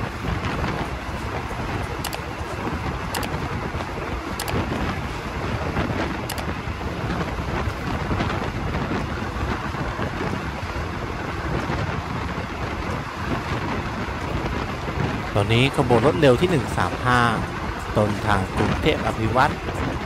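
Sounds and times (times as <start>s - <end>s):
train wheels on rails: 0.0s - 20.0s
wind buffeting microphone: 0.0s - 20.0s.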